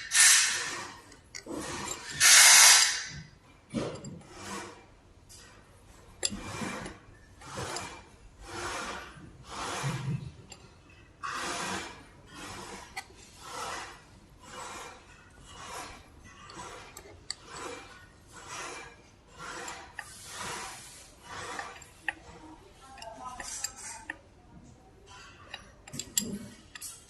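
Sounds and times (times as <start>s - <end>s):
rasping strokes: 0.0s - 3.3s, 4.2s - 27.0s.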